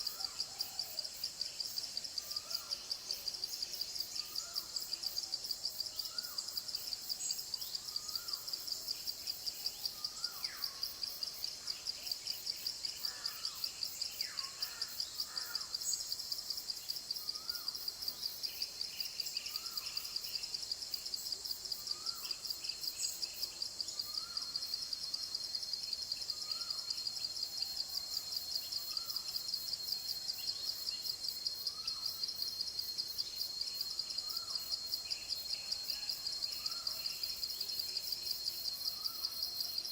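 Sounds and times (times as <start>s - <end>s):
pulsing insect chorus: 0.0s - 39.9s.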